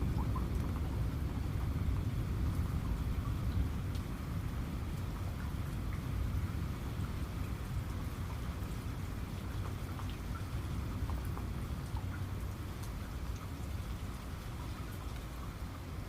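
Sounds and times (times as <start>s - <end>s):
deep continuous rumble: 0.0s - 16.0s
raindrops ticking: 0.0s - 16.0s
steady rain: 0.0s - 16.0s.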